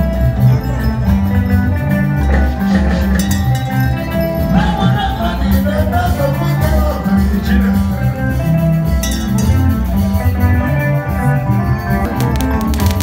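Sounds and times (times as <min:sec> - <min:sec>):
band music with guitar: 0:00.0 - 0:13.0.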